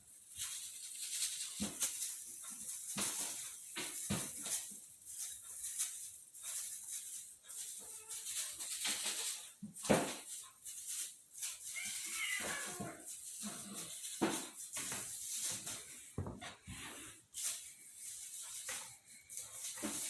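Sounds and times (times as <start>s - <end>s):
kitten rustling and scratching: 0.0s - 20.0s.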